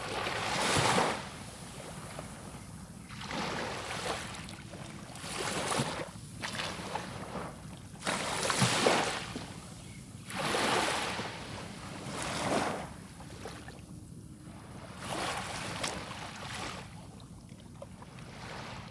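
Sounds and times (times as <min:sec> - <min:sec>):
small sea waves breaking: 0:00.0 - 0:09.6, 0:10.3 - 0:13.8, 0:14.5 - 0:17.1, 0:18.0 - 0:18.9.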